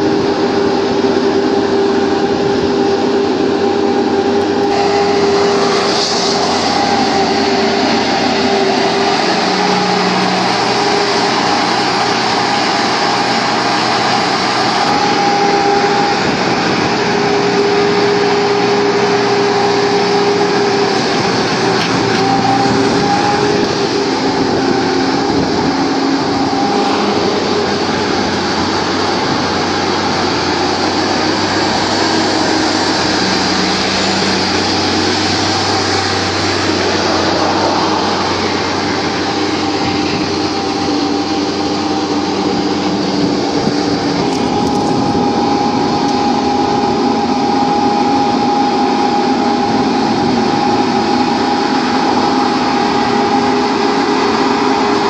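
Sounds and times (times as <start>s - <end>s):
tiller churning mud and water: 0.0s - 55.0s
tractor diesel engine running: 0.0s - 55.0s.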